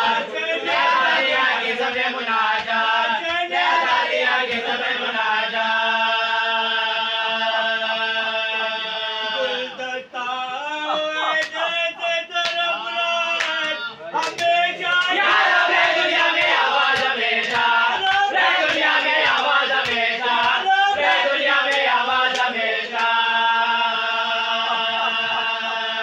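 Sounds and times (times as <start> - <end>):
men chanting in unison: 0.0 - 26.0.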